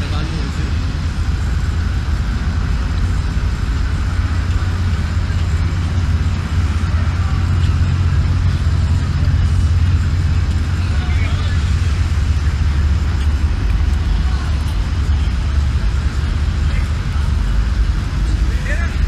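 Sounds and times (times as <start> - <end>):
traffic hiss: 0.0 - 19.0
traffic rumble: 0.0 - 19.0.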